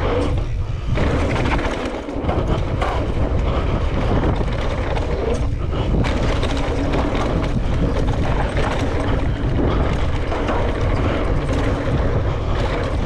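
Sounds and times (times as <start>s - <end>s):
bike rattling and knocking: 0.0s - 13.0s
wind rushing over microphone: 0.0s - 13.0s.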